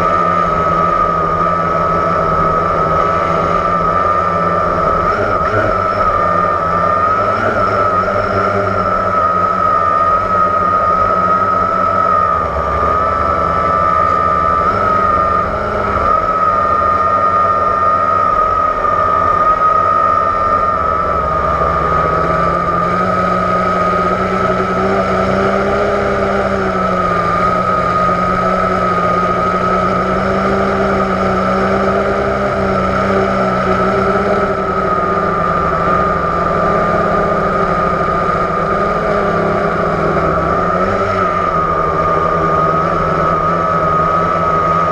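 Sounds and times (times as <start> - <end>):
drone propellers whining: 0.0 - 44.9.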